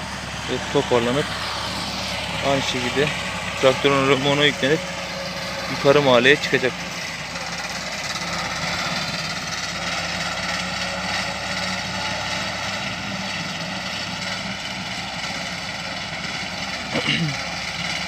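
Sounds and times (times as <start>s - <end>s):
mowing machine engines droning: 0.0s - 18.0s.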